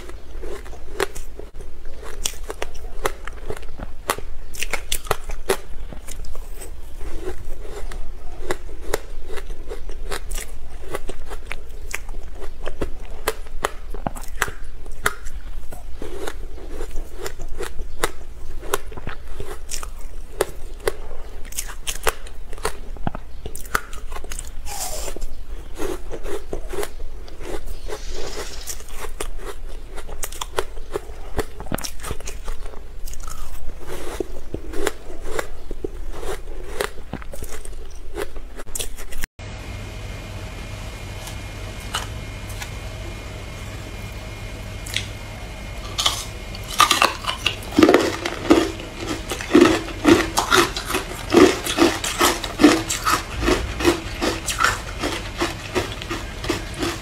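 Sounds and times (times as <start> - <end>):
crunching ice with teeth: 0.0 - 39.2, 45.8 - 57.0.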